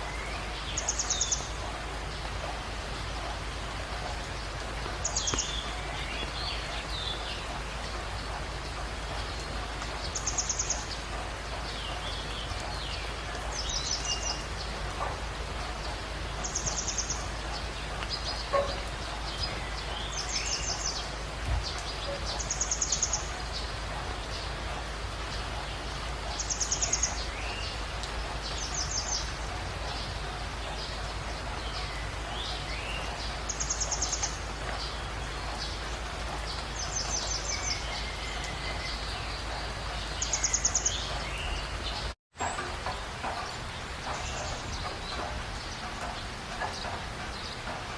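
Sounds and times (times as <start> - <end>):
birds chirping: 0.0 - 47.9
rain falling: 0.0 - 47.9.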